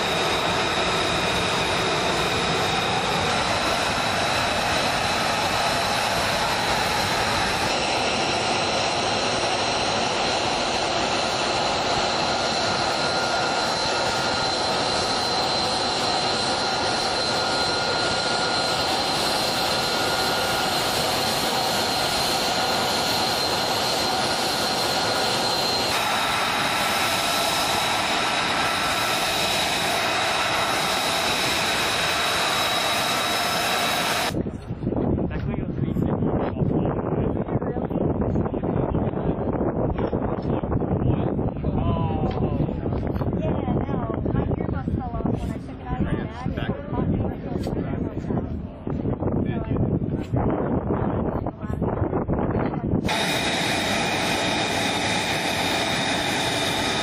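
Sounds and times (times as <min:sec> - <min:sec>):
jet engine idling whine: 0:00.0 - 0:57.0.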